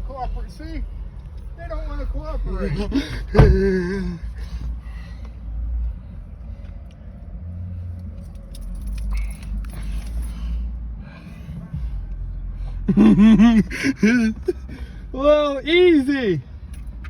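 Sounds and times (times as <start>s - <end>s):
truck engine rumble from cab: 0.0s - 17.0s.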